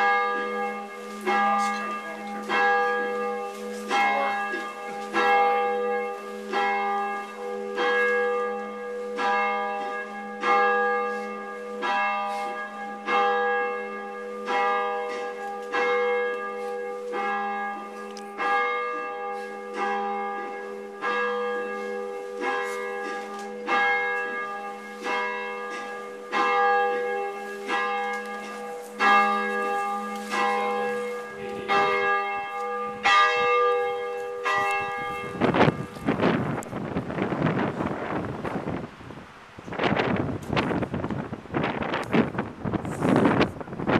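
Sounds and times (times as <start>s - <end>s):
church bell tolling: 0.0s - 38.9s.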